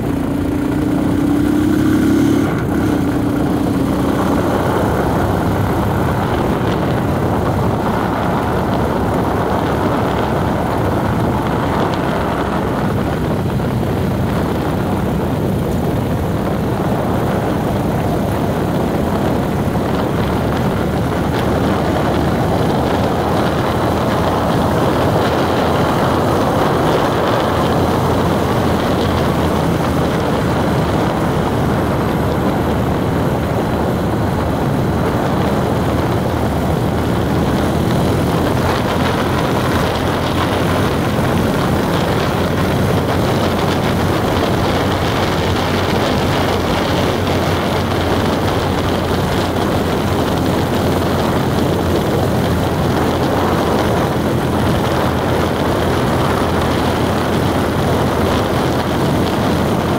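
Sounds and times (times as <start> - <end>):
vehicle driving on road: 0.0 - 59.9.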